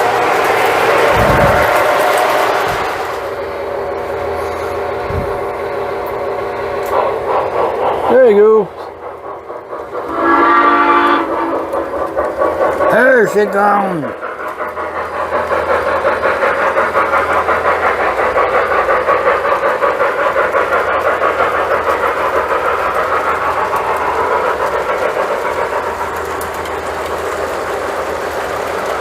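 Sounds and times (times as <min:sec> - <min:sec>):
model train rolling rumble: 0:00.0 - 0:29.0.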